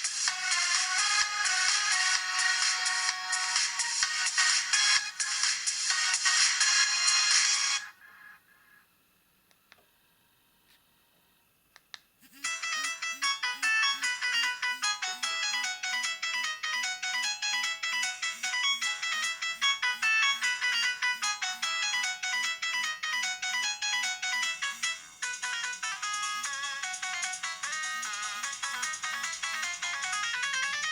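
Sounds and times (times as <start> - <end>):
phone ringtone melody: 0.1 - 7.9, 12.3 - 30.9.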